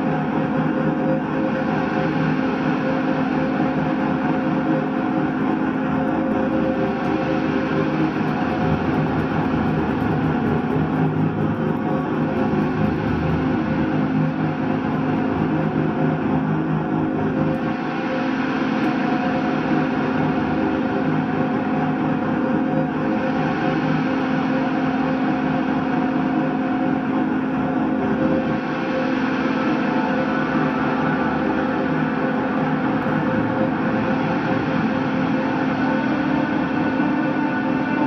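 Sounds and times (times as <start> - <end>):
electric guitar noise drone: 0.0 - 38.0.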